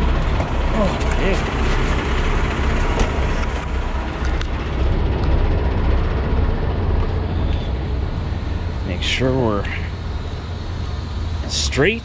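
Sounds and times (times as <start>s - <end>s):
low outdoor rumble and hiss: 0.0s - 12.0s.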